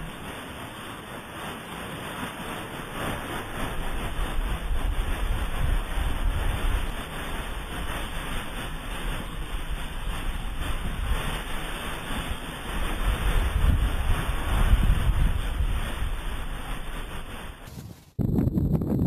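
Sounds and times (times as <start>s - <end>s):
snowboard hissing on snow: 0.0s - 18.2s
wind on microphone: 0.0s - 19.0s.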